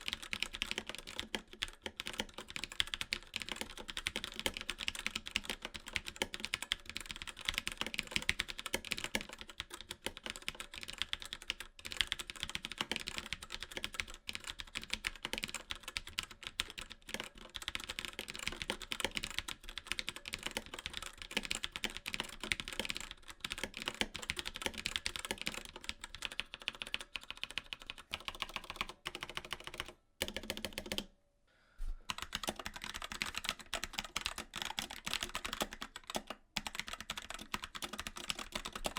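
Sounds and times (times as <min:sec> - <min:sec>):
typing on mechanical keyboard: 0:00.0 - 0:31.1, 0:32.1 - 0:38.9.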